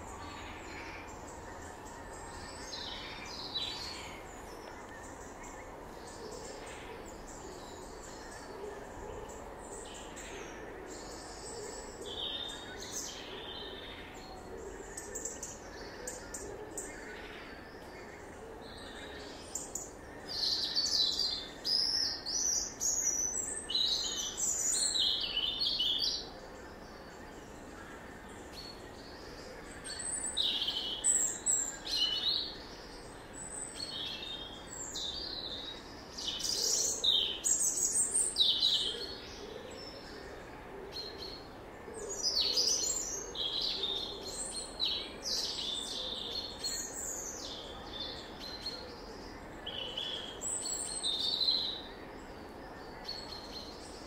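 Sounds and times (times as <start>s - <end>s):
faint background noise: 0.0s - 54.0s
songbirds singing: 0.0s - 54.0s.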